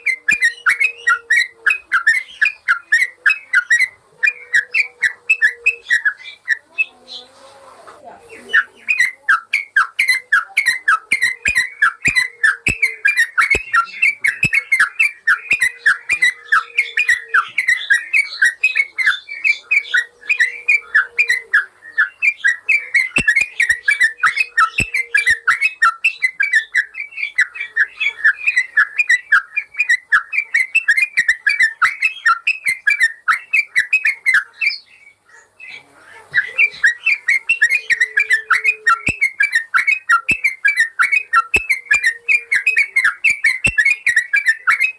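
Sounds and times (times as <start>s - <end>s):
bird singing chattering whistles: 0.0s - 7.2s, 8.3s - 44.9s.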